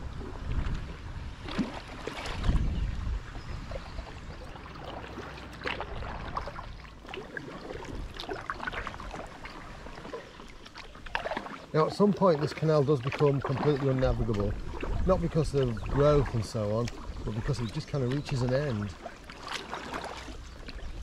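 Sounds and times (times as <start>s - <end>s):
paddle splashing in water: 0.0s - 21.0s.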